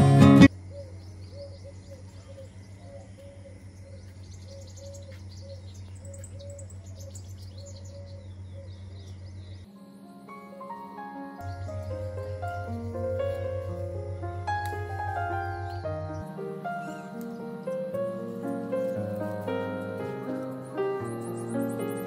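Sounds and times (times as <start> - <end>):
birds chirping: 0.4 - 9.8, 10.6 - 22.0.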